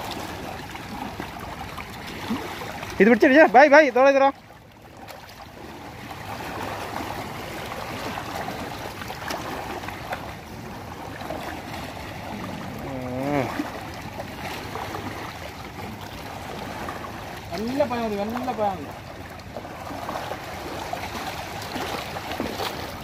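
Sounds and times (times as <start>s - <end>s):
person wading through water: 0.0s - 23.0s
seawater splashing over rocks: 0.0s - 23.0s.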